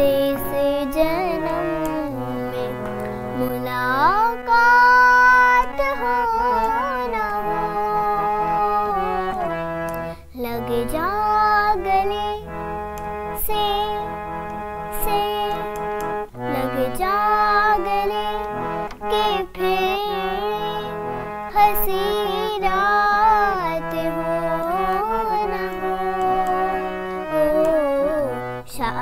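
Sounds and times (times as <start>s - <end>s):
girl singing: 0.0s - 29.0s
harmonium: 0.0s - 29.0s.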